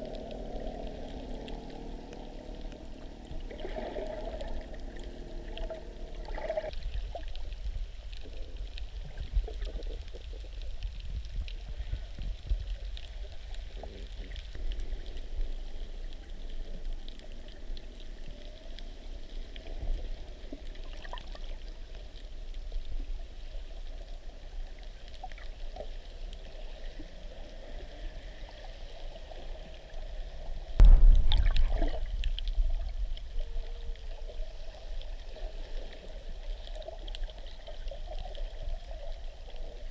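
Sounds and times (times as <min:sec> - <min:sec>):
rush of water: 0:00.0 - 0:22.0, 0:24.6 - 0:39.9
faint crackles: 0:00.0 - 0:39.9
muffled underwater rumble: 0:00.0 - 0:39.9.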